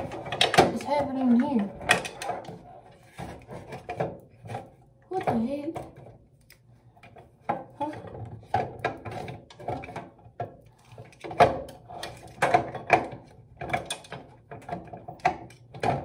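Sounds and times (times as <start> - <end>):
objects clicking and rattling in cabinet: 0.0 - 16.0.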